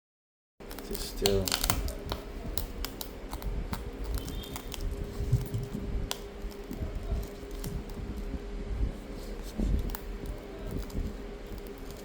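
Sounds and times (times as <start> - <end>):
faint steady hum: 0.6 - 12.0.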